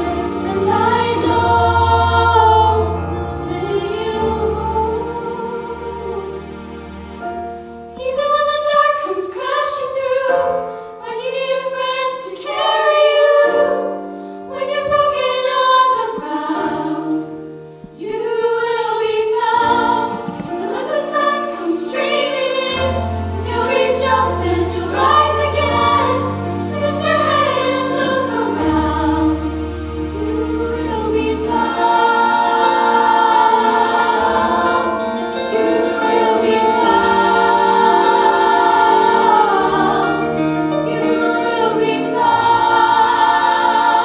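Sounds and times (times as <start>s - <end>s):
women's vocal group singing: 0.0s - 6.6s, 7.9s - 44.0s.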